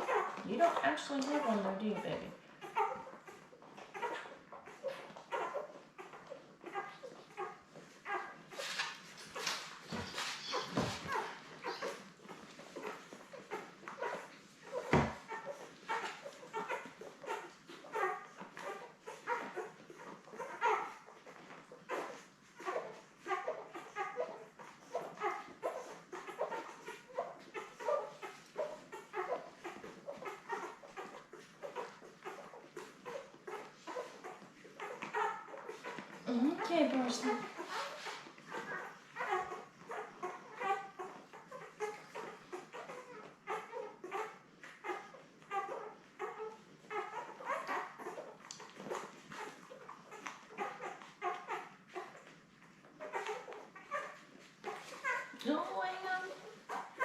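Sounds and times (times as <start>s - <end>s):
puppies whimpering and squealing: 0.0s - 57.0s.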